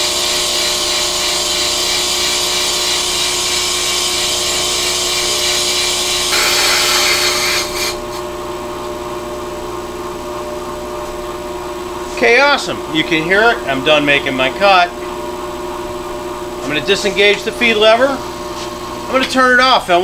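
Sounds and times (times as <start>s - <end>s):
lathe motor hum: 0.0s - 19.2s.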